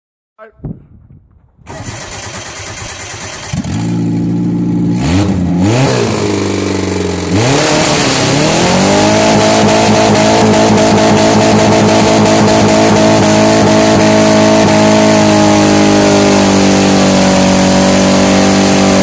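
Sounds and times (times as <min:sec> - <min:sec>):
car engine revving: 0:01.7 - 0:19.0.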